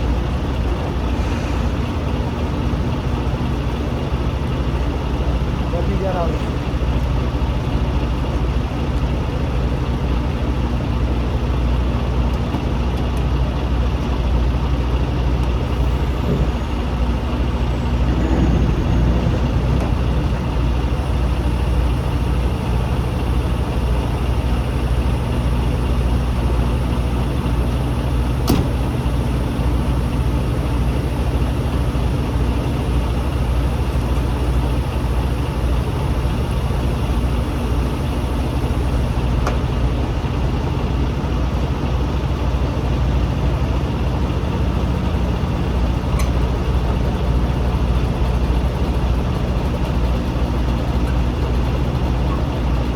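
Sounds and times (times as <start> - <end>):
truck diesel engine idling: 0.0 - 52.9.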